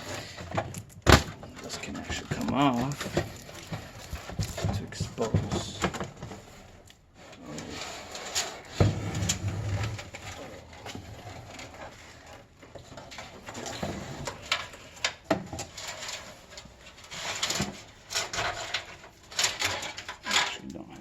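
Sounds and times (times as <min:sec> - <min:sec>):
computer parts and cables handled: 0:00.0 - 0:21.0.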